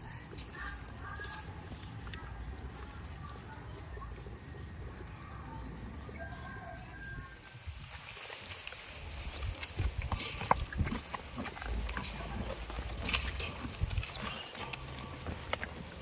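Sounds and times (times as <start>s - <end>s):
goats hooves knocking and clicking: 0.0s - 16.0s.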